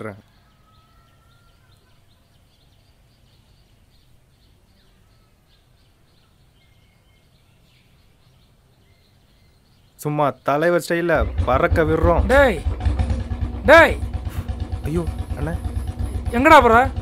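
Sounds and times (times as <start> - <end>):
low background noise: 0.0 - 17.0
small birds chirping: 0.0 - 17.0.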